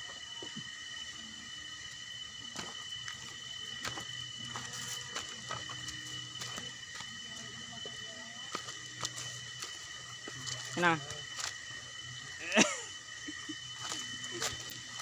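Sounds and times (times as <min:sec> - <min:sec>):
high-pitched hum: 0:00.0 - 0:15.0.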